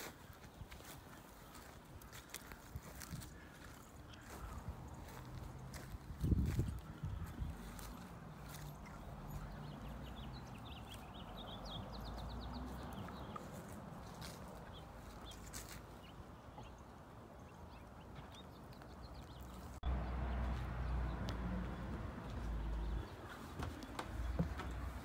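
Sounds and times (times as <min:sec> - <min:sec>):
footsteps: 0:00.0 - 0:11.0, 0:12.1 - 0:16.0, 0:18.1 - 0:25.0
bird chirping: 0:03.6 - 0:25.0.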